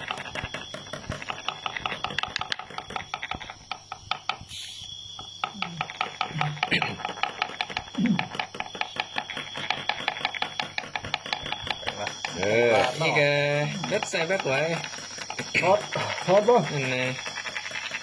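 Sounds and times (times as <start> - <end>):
wooden sticks clicking and scraping: 0.0 - 4.6, 5.4 - 18.0.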